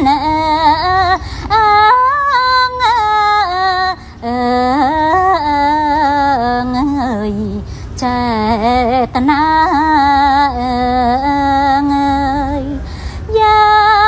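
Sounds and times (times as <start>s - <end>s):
woman singing slow melody: 0.0s - 14.0s.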